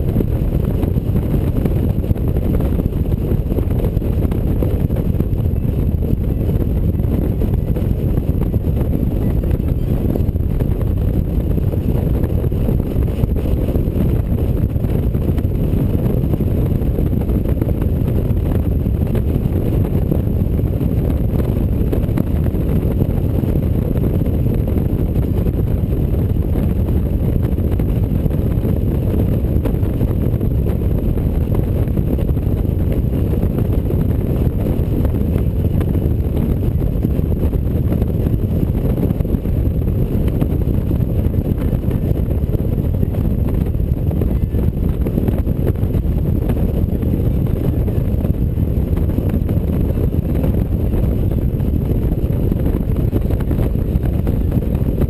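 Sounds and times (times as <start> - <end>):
motorcycle engine and road noise: 0.0 - 55.0
wind rushing over microphone: 0.0 - 55.0.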